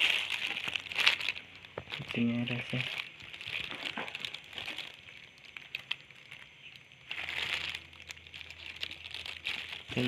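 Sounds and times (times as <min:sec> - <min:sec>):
plastic crinkling and rustling: 0:00.0 - 0:10.0.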